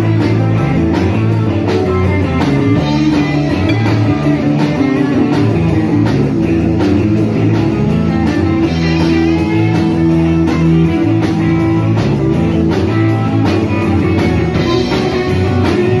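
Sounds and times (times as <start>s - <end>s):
rock music with guitars and drums: 0.0s - 16.0s.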